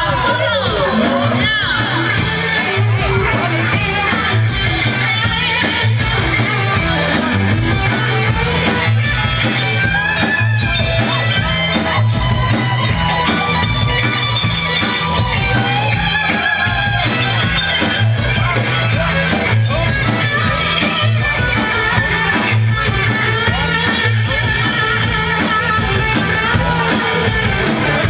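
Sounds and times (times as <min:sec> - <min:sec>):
electric guitar band music: 0:00.0 - 0:28.0.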